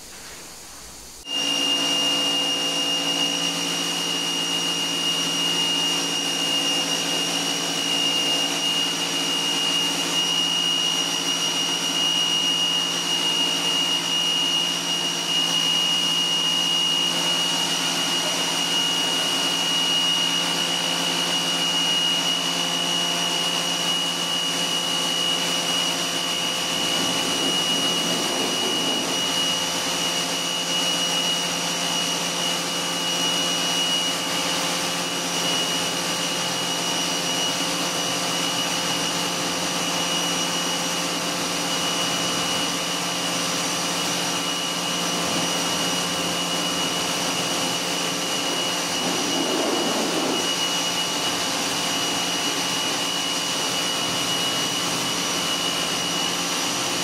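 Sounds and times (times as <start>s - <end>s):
pressure washer whine: 0.0s - 57.0s
water jet hissing on car: 0.0s - 57.0s.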